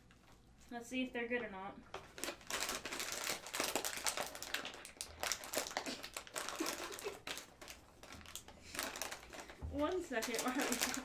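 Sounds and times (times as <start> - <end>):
plastic chip bag crinkling: 1.9 - 11.0.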